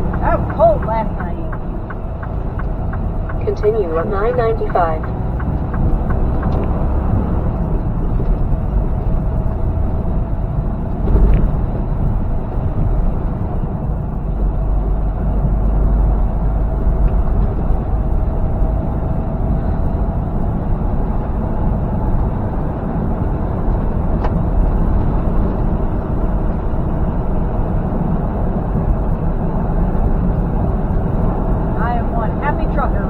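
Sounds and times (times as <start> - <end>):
truck engine and road drone: 0.0 - 33.0.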